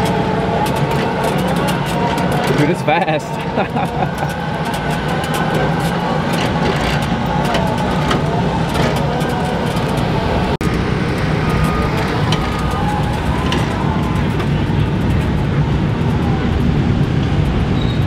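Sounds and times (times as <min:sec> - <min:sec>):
electric mower whirring: 0:00.0 - 0:15.4.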